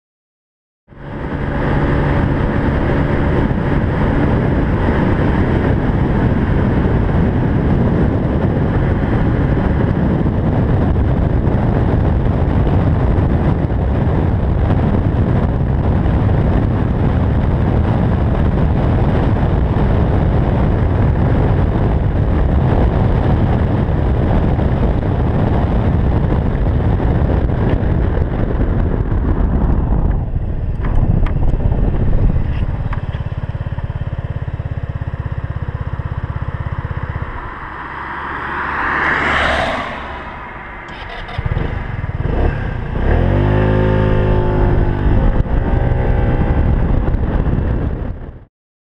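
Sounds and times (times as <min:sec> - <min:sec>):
scooter engine hum: 0:00.9 - 0:48.2
wind rushing over microphone: 0:00.9 - 0:48.5.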